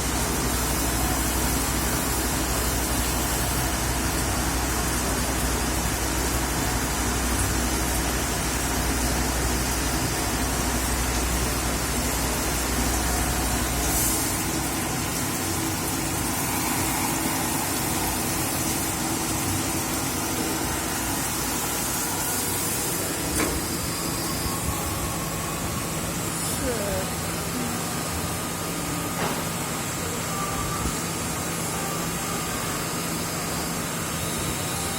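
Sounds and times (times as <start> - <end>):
lathe machine hiss and hum: 0.0 - 34.9.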